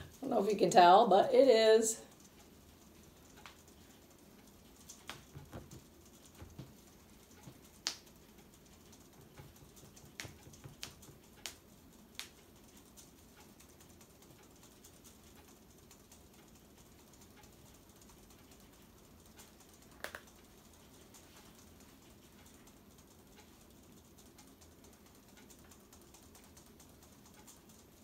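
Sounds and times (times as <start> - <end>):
faint irregular clicks and ticks: 0.0 - 28.0.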